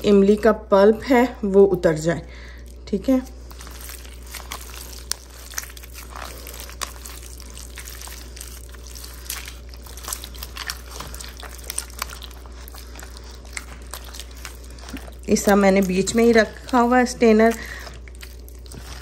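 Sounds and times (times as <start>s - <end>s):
steady low hum: 0.0s - 19.0s
wet squelching pulp: 0.0s - 19.0s.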